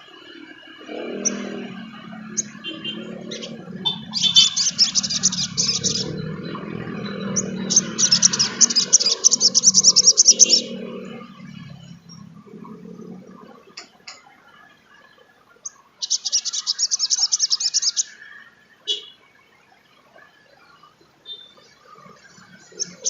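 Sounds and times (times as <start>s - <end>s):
bird singing chips and trills: 0.0s - 23.0s.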